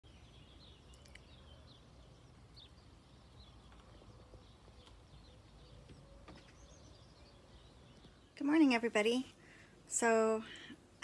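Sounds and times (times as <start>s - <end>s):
faint small birds chirping: 0.0s - 11.0s.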